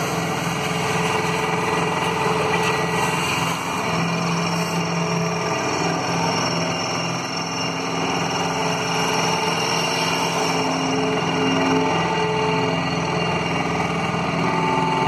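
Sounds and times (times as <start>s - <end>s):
heavy machinery engine drone: 0.0s - 15.0s.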